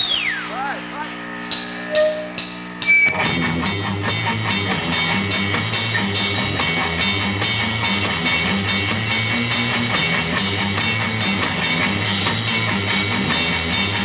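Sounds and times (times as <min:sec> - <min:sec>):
live rock band playing: 0:01.5 - 0:14.0.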